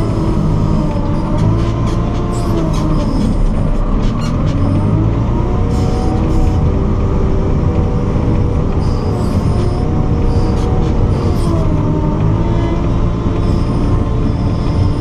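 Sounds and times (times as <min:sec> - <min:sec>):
diesel engine working under load: 0:00.0 - 0:15.0.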